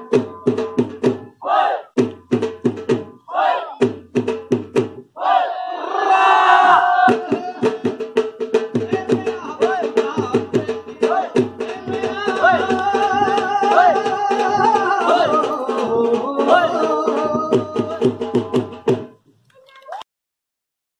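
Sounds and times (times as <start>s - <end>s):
loud bhangra music: 0.0s - 19.3s.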